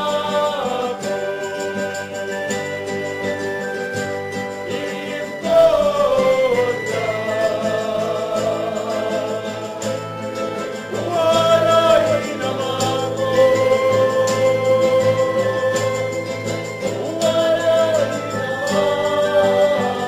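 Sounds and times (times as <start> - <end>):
instrumental accompaniment: 0.0 - 20.0
voices singing a hymn: 0.0 - 20.0.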